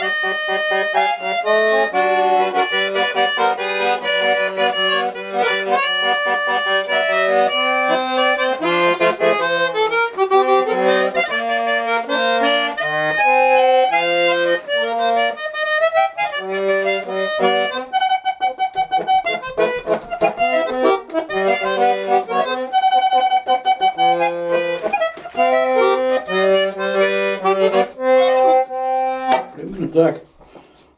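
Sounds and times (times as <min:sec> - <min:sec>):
button accordion playing: 0:00.0 - 0:30.4.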